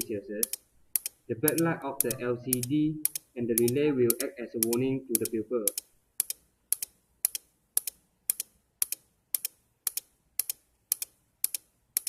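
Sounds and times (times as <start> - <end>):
relay clicking on and off: 0.0 - 12.0.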